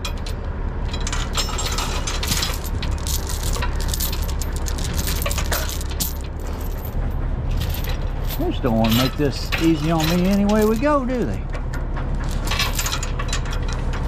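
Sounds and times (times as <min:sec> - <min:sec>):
chain clinking and rattling: 0:00.0 - 0:14.0
low rumble: 0:00.0 - 0:14.0.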